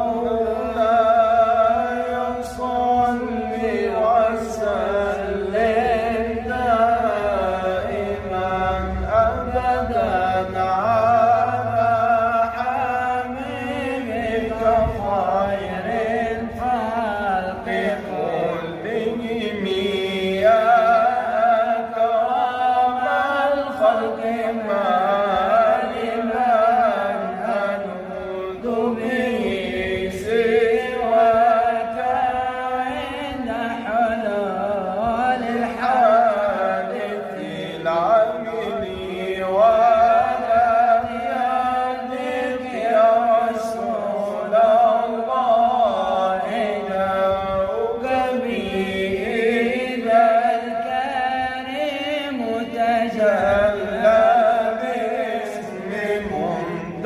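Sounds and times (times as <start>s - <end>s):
man chanting devotional song: 0.0s - 57.0s.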